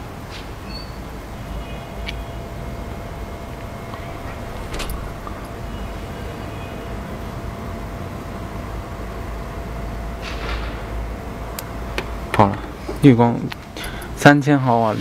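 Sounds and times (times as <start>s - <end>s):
distant road traffic hum: 0.0s - 14.6s.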